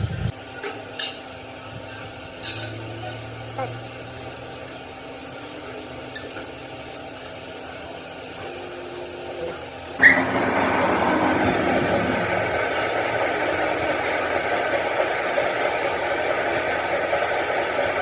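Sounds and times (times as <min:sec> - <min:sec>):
truck engine starting and running: 0:01.4 - 0:18.0.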